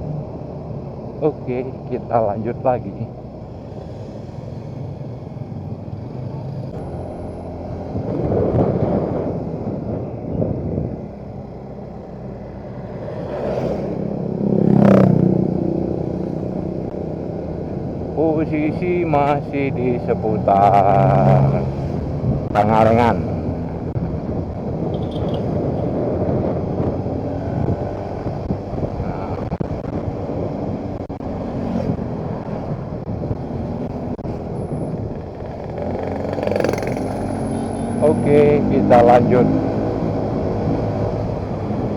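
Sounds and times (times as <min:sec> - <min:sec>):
motorcycle engine: 0:02.8 - 0:41.9
wind rumble on microphone: 0:04.9 - 0:41.9
vehicle passing close: 0:05.9 - 0:41.9.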